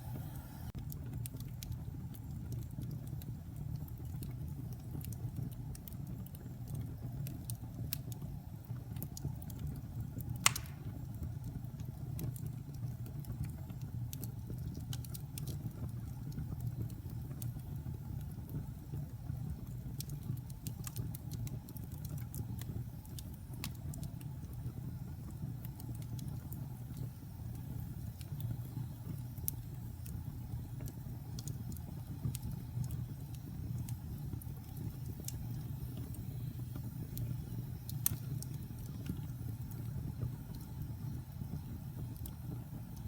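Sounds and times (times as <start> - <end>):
fire low rumble: 0.0 - 43.0
burning wood popping and clicking: 0.8 - 43.0.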